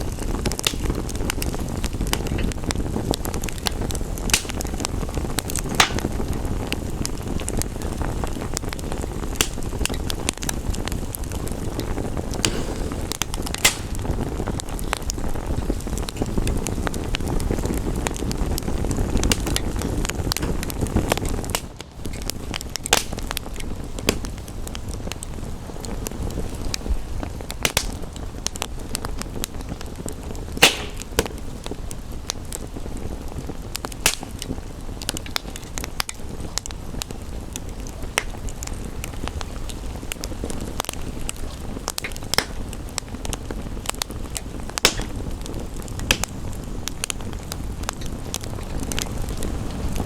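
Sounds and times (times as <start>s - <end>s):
wood fire crackling and popping: 0.0s - 50.0s.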